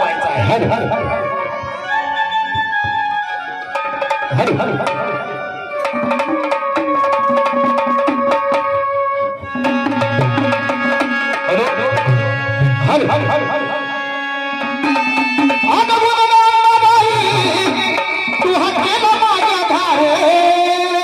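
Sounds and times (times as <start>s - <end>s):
tabla playing lively rhythm: 0.0s - 21.0s.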